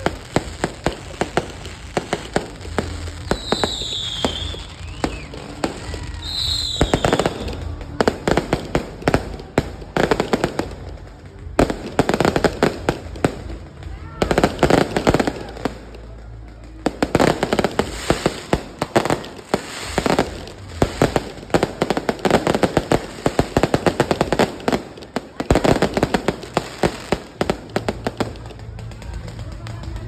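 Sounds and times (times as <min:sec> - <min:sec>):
fireworks crackling and banging: 0:00.0 - 0:30.0.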